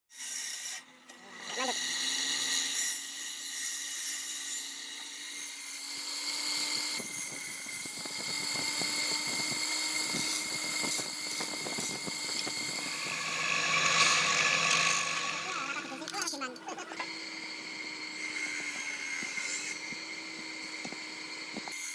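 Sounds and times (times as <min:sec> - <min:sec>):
power tool high whine: 0:00.2 - 0:21.9.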